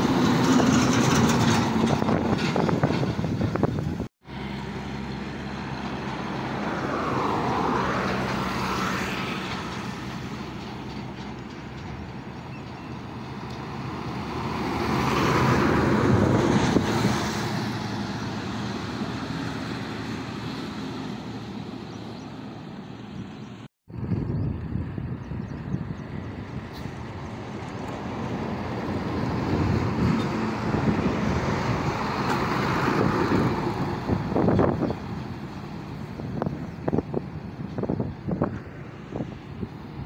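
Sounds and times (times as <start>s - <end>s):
heavy trucks driving past: 0.0s - 40.0s.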